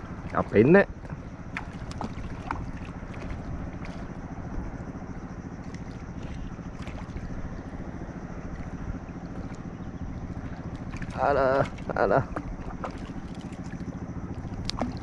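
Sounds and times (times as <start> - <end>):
fish splashing on water: 0.0 - 4.6, 5.6 - 15.0
steady low hum: 0.0 - 15.0
wind buffeting microphone: 0.0 - 15.0.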